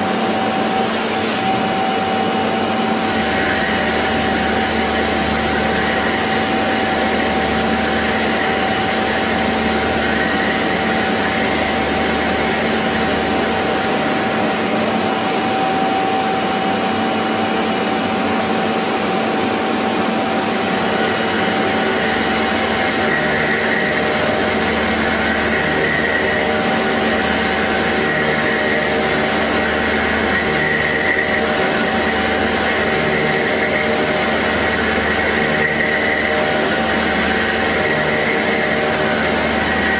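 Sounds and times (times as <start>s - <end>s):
constant machine whine: 0.0s - 39.9s
machine tools running: 0.0s - 39.9s.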